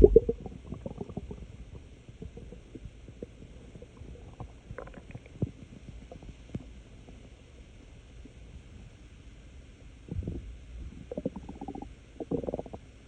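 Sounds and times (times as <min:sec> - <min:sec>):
stomach gurgling and rumbling: 0:00.0 - 0:09.2, 0:10.0 - 0:13.0.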